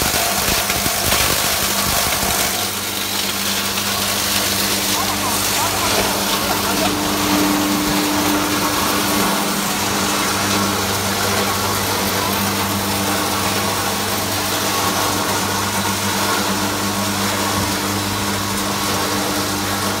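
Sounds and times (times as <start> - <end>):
crusher motor humming: 0.0 - 20.0.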